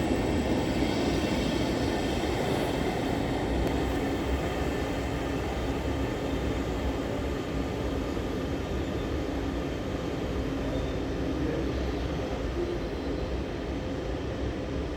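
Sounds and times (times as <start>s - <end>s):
train rumbling on track: 0.0s - 14.9s.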